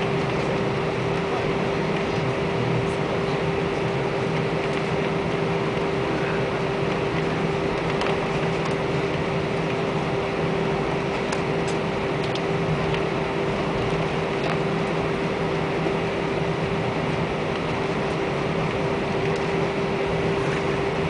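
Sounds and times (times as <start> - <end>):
airplane cabin engine and air noise: 0.0 - 21.0.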